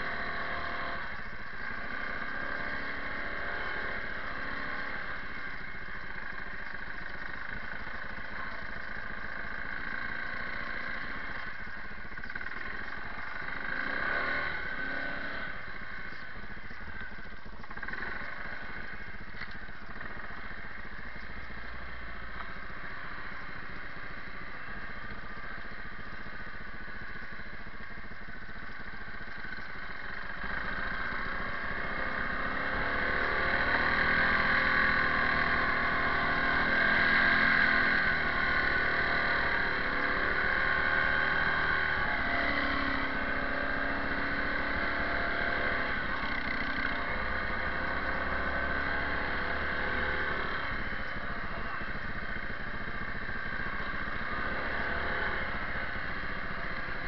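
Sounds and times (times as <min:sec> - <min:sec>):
quad bike engine revving: 0:00.0 - 0:11.5, 0:12.1 - 0:20.7, 0:29.0 - 0:57.0.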